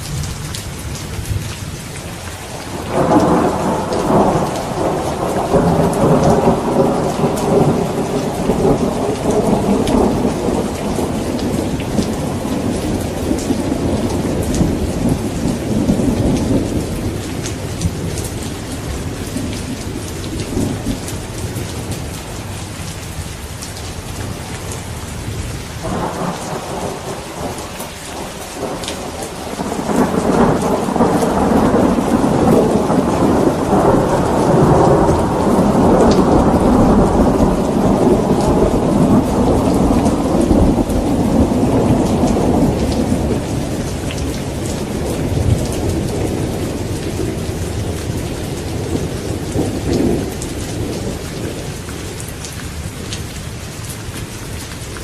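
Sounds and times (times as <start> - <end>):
steady rain falling: 0.0 - 55.0
rolling thunder rumble: 2.6 - 22.6, 24.2 - 52.2.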